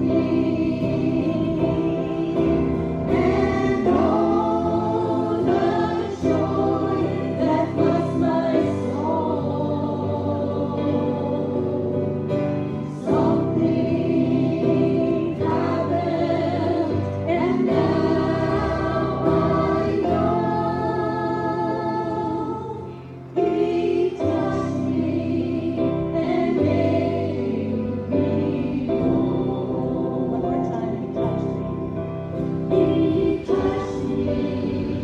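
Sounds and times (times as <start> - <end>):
group singing a hymn: 0.0 - 35.0
steady musical accompaniment: 0.0 - 35.0.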